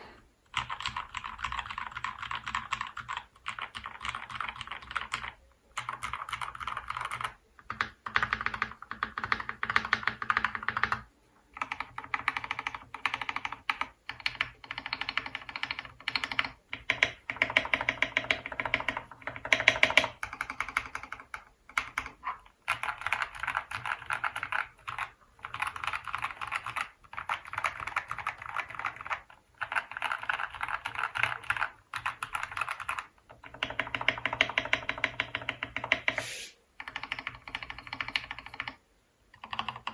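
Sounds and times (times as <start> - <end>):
fast typing on mechanical keyboard: 0.5 - 36.2, 36.8 - 39.9.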